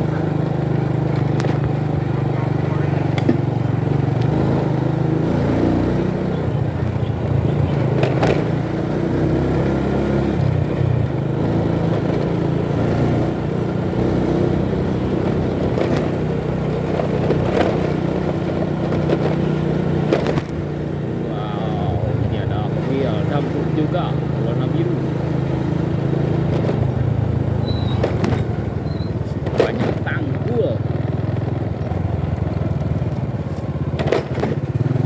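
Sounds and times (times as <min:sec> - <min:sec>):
motorcycle engine running: 0:00.0 - 0:35.0
road noise: 0:00.0 - 0:35.0.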